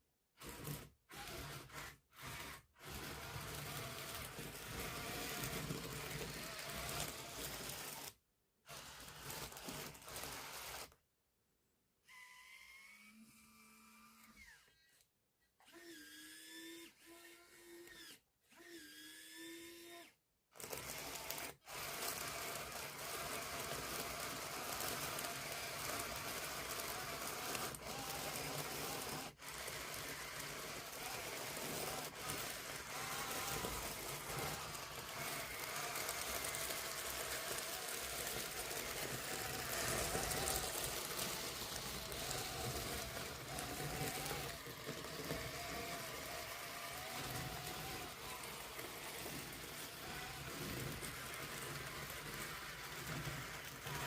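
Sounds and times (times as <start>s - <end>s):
small electric motors whining: 0.4s - 11.0s, 12.0s - 54.0s.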